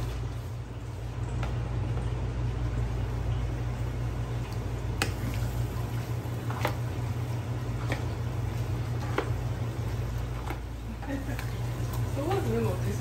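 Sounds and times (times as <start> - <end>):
steady low hum: 0.0 - 13.0
wet squishing of noodles stirred: 0.0 - 13.0.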